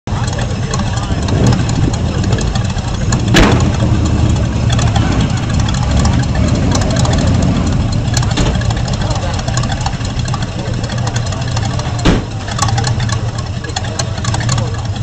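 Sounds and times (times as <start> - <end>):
truck engine idling: 0.1 - 15.0
engine revving burst: 1.0 - 13.3.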